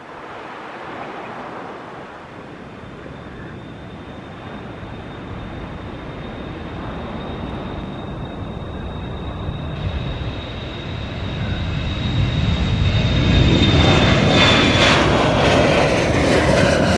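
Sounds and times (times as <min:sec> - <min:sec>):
jet engines roaring: 0:00.0 - 0:16.9.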